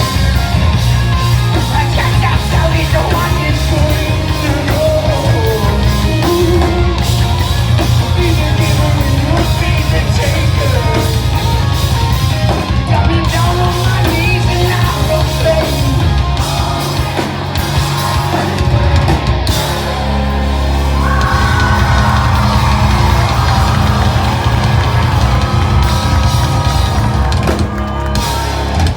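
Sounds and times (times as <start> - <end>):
drum kit: 0.0 - 28.9
electric guitars: 0.0 - 28.9
yelled vocals: 0.0 - 28.9.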